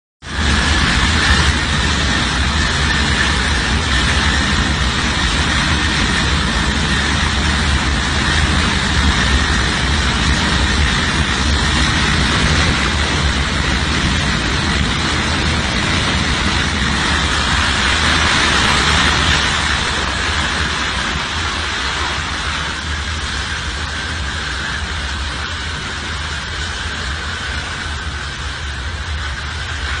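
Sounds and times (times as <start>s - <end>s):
jet engines in reverse thrust: 0.2s - 30.0s.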